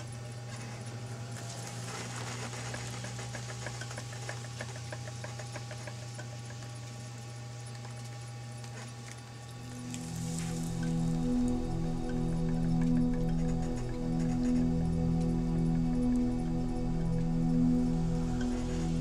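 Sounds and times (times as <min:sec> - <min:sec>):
potter's wheel motor humming: 0:00.0 - 0:19.0
soft rhythmic clicks: 0:02.3 - 0:19.0.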